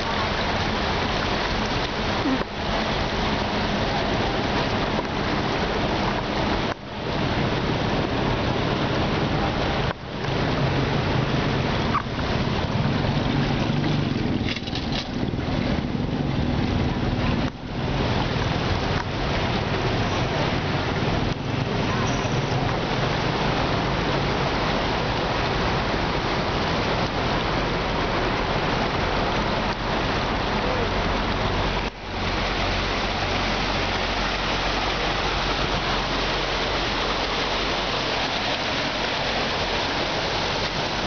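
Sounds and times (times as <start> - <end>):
floodwater rushing and sloshing: 0.0 - 41.0.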